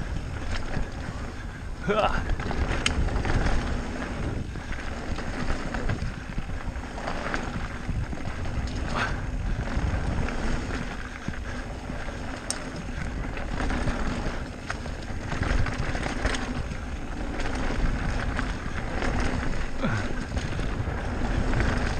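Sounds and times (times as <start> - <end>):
bike knocks and rattles: 0.0 - 21.9
low rumble of bike: 0.0 - 21.9
wind buffeting microphone: 0.0 - 21.9.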